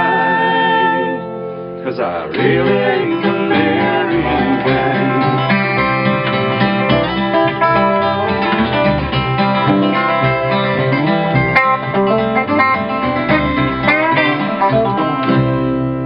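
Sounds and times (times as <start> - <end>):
instrumental country music: 0.0 - 16.0.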